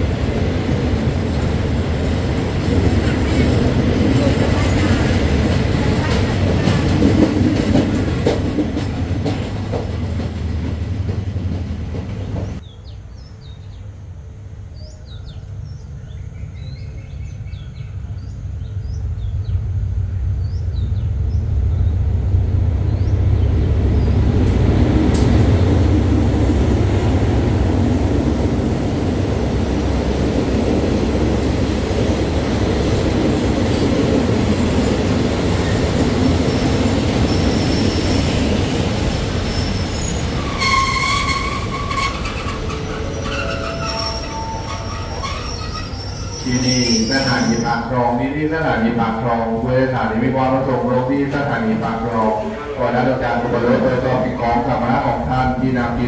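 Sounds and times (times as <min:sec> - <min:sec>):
train running loudly: 0:00.0 - 0:12.6, 0:17.9 - 0:56.0
train wheels rumbling on rails: 0:00.0 - 0:12.7, 0:14.8 - 0:56.0
birds chirping: 0:00.1 - 0:56.0.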